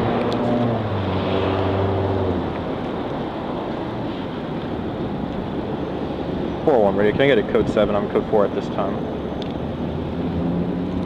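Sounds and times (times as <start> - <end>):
passing traffic rush: 0.0 - 11.0
vehicle engine hum: 0.0 - 11.0.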